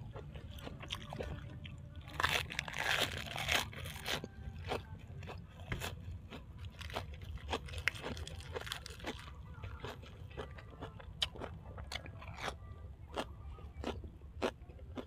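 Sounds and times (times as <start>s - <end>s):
wet crunchy chewing: 0.0s - 15.0s.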